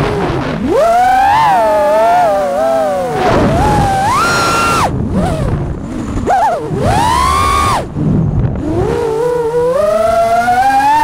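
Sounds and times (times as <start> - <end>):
quadcopter motors whining: 0.0 - 8.0, 8.6 - 11.0
low rumble: 0.0 - 10.1.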